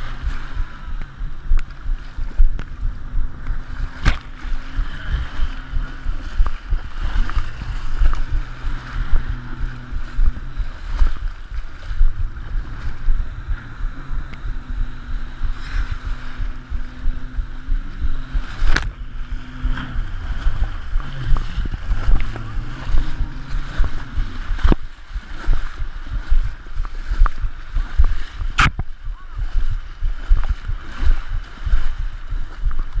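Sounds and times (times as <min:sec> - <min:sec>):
outboard motor running: 0:00.0 - 0:33.0
rushing water: 0:00.0 - 0:33.0
wind buffeting microphone: 0:00.0 - 0:33.0.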